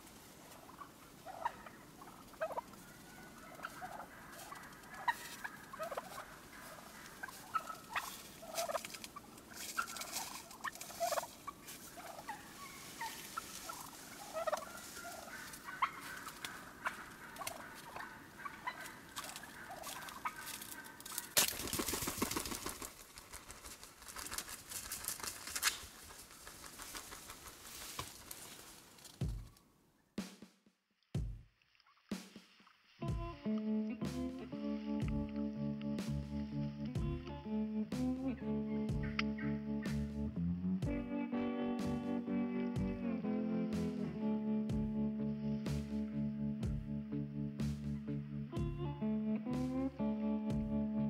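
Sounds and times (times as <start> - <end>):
wild turkeys calling: 0.0 - 30.1, 31.7 - 50.9.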